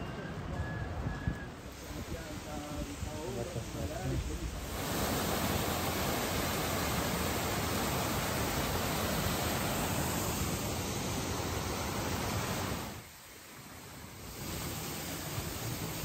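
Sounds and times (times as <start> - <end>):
waterfall rushing water: 1.7 - 16.0.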